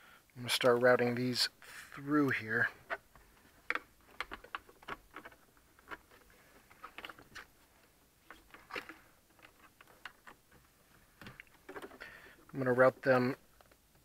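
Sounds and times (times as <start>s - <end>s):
cables clicking and rustling: 1.9s - 14.0s.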